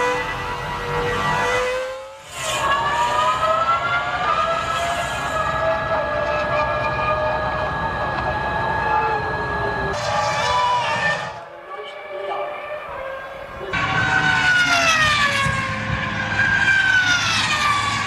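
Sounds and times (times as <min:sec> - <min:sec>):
racing car engine whining: 0:00.0 - 0:18.0.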